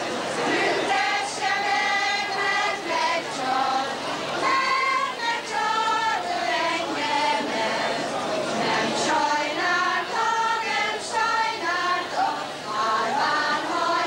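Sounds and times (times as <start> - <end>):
women singing folk song: 0.4 - 14.0.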